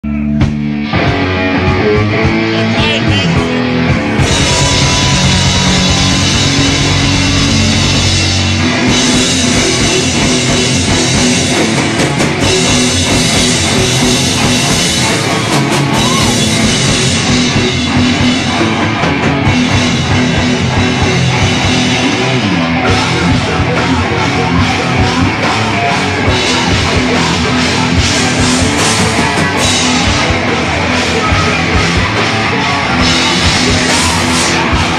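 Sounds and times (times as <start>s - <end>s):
rock band playing loud: 0.0s - 34.9s.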